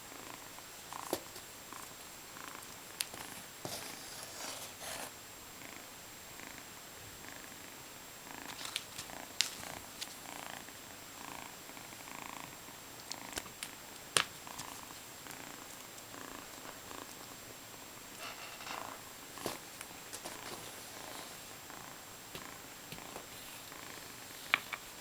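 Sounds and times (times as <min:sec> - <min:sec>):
kitten purring: 0:00.1 - 0:19.7, 0:20.4 - 0:24.9.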